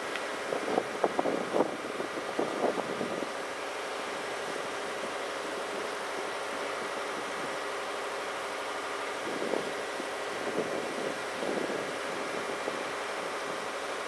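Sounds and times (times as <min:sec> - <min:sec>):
diesel generator engines droning: 0:00.0 - 0:14.0.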